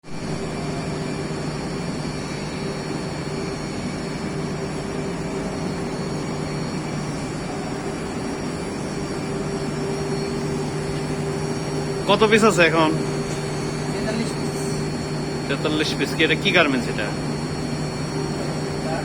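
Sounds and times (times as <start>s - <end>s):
washing machine drone: 0.0s - 19.0s.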